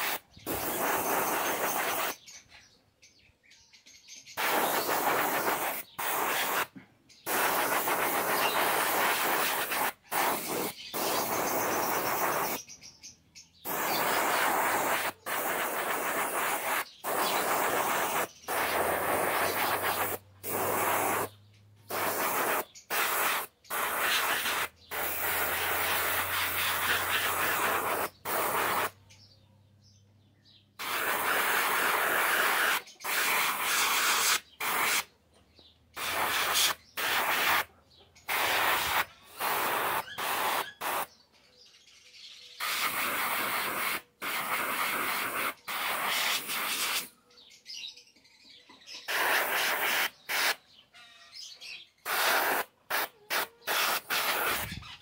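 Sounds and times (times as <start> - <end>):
paint spray hissing: 0.0 - 2.4, 4.3 - 12.8, 13.6 - 29.0, 30.8 - 35.1, 35.9 - 41.1, 42.6 - 47.1, 49.0 - 50.6, 52.0 - 55.0.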